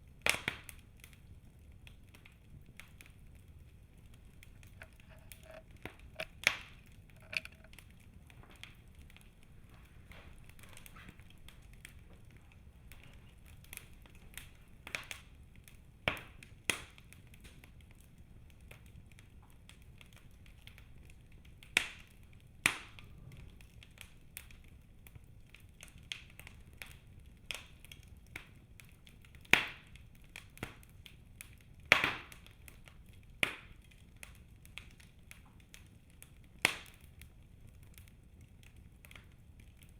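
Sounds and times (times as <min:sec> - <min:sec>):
low fire rumble: 0:00.0 - 0:39.9
logs crackling and snapping: 0:00.1 - 0:39.9.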